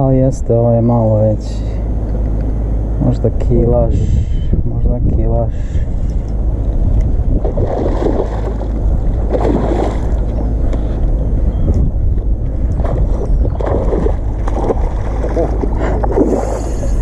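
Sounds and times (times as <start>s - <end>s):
wind rumble on microphone: 1.9s - 17.0s.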